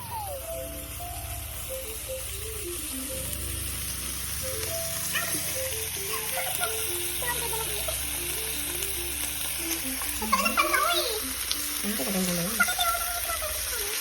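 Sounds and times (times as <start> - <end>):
background music: 0.0 - 14.0
food sizzling in a frying pan: 0.0 - 14.0.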